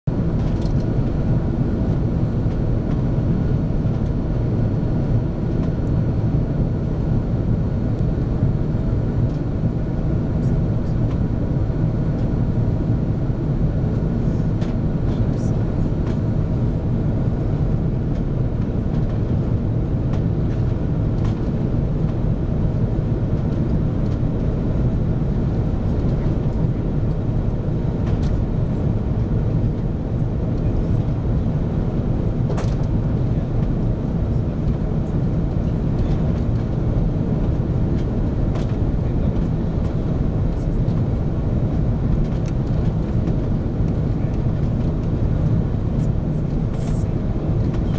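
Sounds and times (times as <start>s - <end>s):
jet engine cabin rumble: 0.1s - 47.9s.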